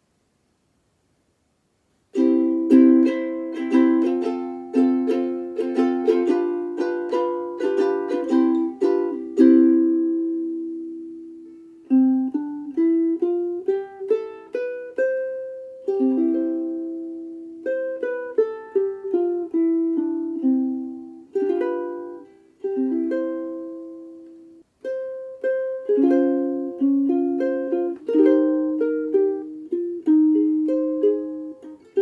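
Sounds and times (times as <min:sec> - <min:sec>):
ukulele playing slow tune: 0:02.1 - 0:32.0.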